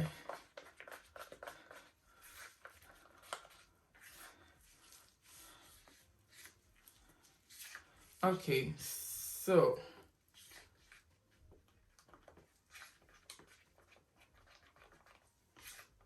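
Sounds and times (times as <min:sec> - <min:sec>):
comb scraping cream: 0:00.0 - 0:16.0.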